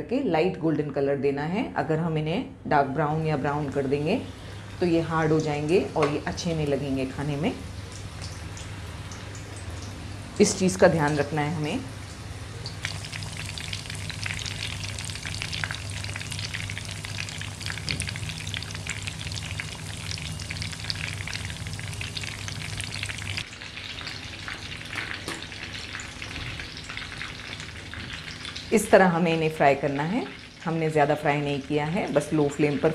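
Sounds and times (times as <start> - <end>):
low steady hum: 0.0 - 32.9
food frying in hot oil: 4.3 - 32.9.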